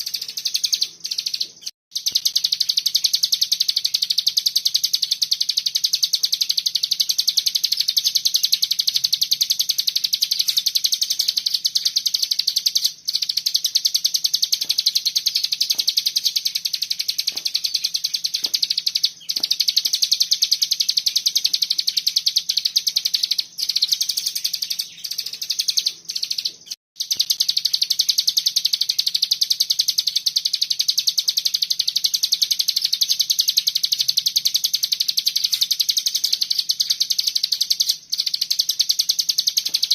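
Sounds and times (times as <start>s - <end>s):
bird singing fast rattling trill: 0.0s - 39.9s.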